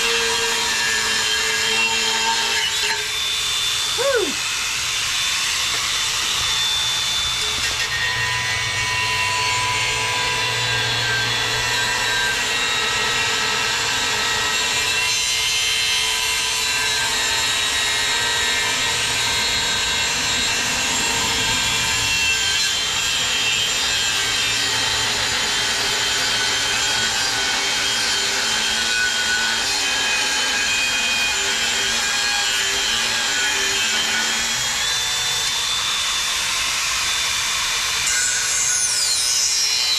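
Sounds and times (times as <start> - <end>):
angle grinder cutting steel: 0.0 - 39.9.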